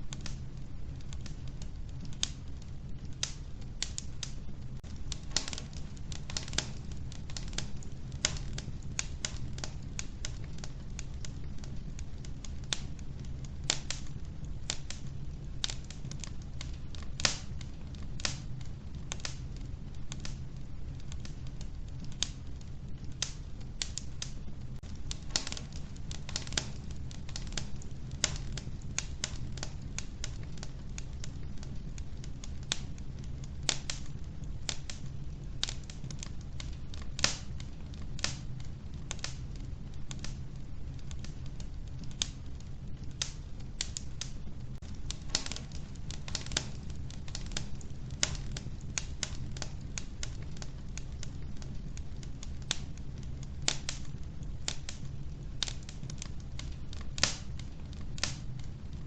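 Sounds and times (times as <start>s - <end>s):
log fire crackling: 0.0s - 59.0s
low fire rumble: 0.0s - 59.0s.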